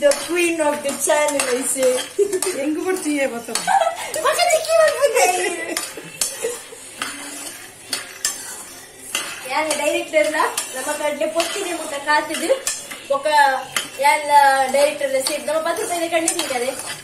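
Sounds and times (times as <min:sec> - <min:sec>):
steel spoon scraping metal pan: 0:00.0 - 0:17.0.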